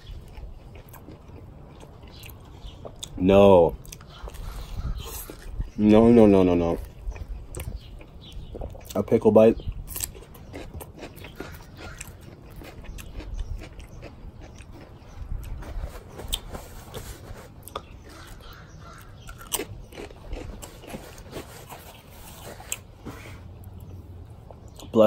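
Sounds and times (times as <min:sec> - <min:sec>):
chewing with wet crunches: 0:00.0 - 0:25.0.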